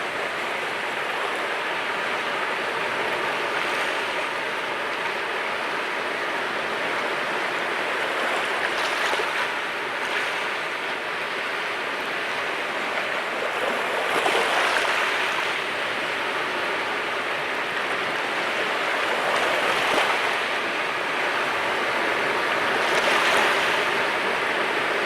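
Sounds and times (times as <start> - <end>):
sea waves washing ashore: 0.0 - 25.0.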